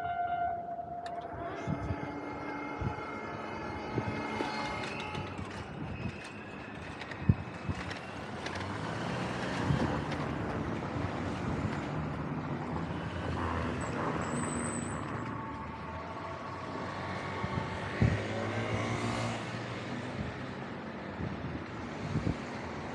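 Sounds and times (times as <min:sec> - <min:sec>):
road vehicles driving past: 0:00.7 - 0:22.9.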